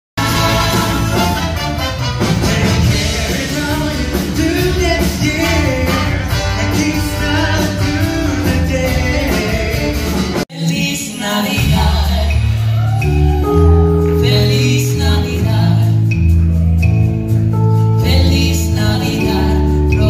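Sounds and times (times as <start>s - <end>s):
upbeat song with band: 0.2s - 20.0s.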